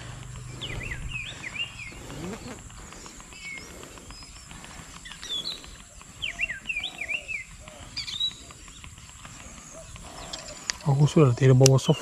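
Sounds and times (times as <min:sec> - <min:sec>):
birds whistling: 0:00.0 - 0:12.0.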